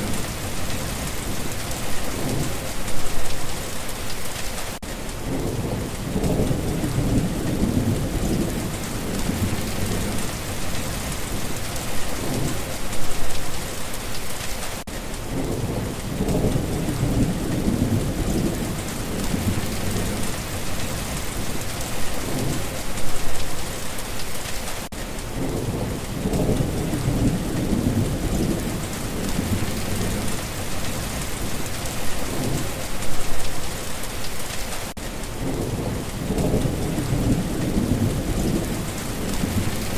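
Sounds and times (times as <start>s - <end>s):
low rolling thunder: 0.0s - 3.3s, 5.2s - 13.3s, 15.3s - 23.4s, 25.3s - 33.4s, 35.4s - 39.9s
steady rain: 0.0s - 39.9s.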